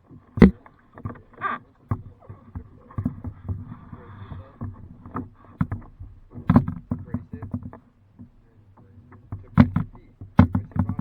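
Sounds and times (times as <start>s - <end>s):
knocks and thumps on kayak: 0.0s - 11.0s.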